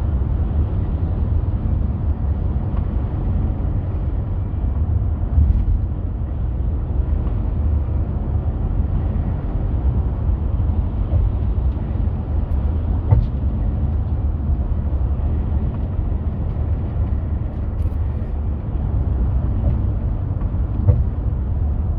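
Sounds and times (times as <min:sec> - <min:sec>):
van engine droning: 0:00.0 - 0:21.9.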